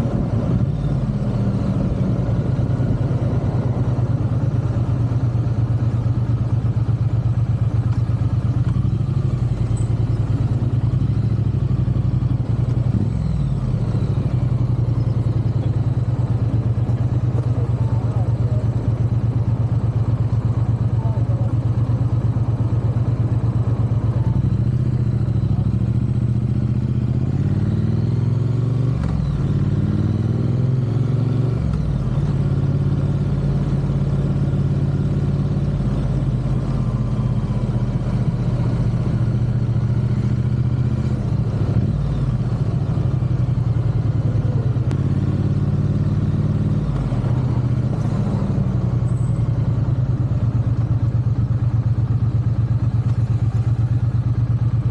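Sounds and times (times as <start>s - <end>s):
motorcycle engine droning: 0.0s - 54.9s.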